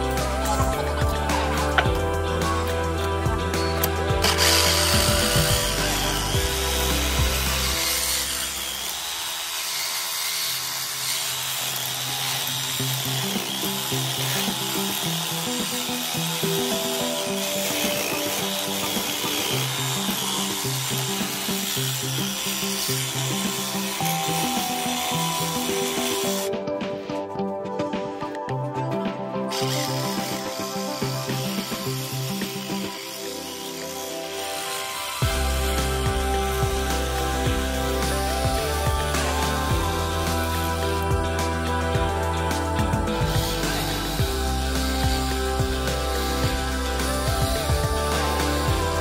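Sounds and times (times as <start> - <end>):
background music with a beat: 0.0 - 8.8, 12.4 - 49.0
power tool running: 0.0 - 26.6, 29.5 - 49.0.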